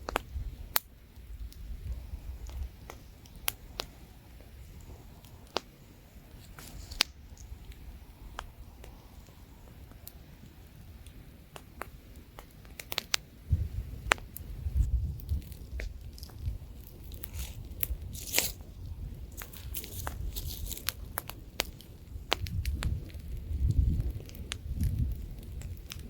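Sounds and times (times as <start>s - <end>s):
campfire crackling and popping: 0.0s - 26.0s
light wind rumble: 0.0s - 26.0s.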